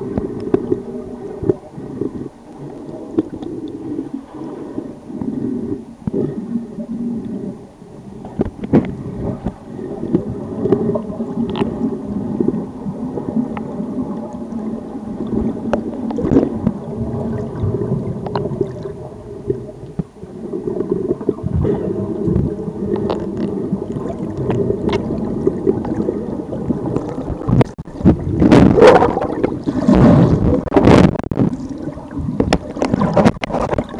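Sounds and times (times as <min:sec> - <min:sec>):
muffled underwater rumble and gurgling: 0:00.0 - 0:33.9.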